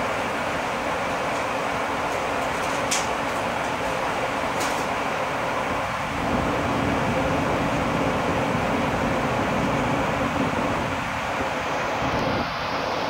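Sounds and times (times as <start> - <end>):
subway car humming: 0.0 - 13.0.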